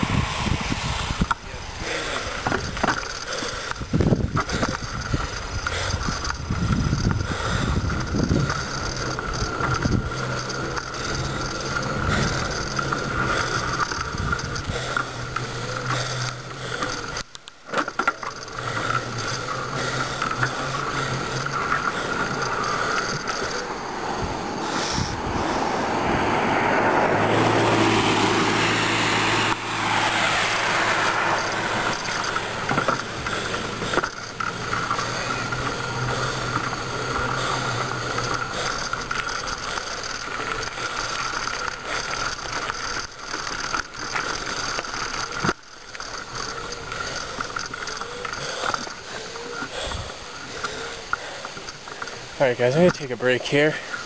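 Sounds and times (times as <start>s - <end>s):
bicycle riding noise: 0.0s - 54.0s.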